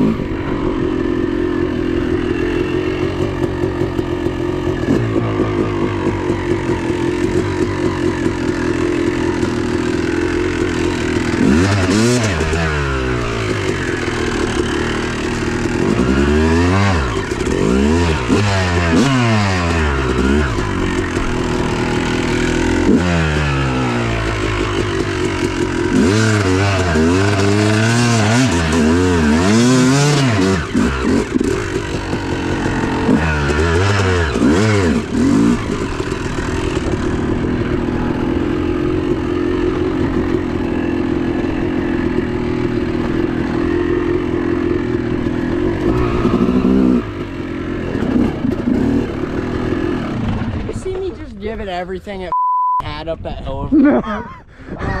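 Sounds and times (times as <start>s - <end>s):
dirt bike engine revving: 0.0s - 51.8s.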